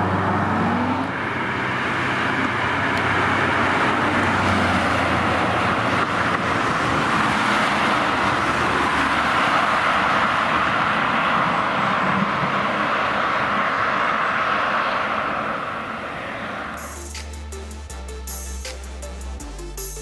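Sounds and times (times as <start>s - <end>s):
car driving past: 0.0s - 17.3s
cars approaching: 0.0s - 20.0s.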